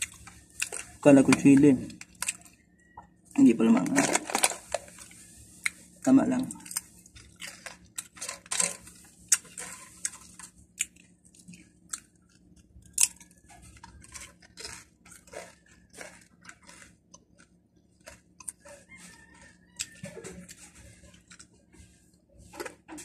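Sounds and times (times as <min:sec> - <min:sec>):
person chewing crunchy chips: 0:00.0 - 0:23.0.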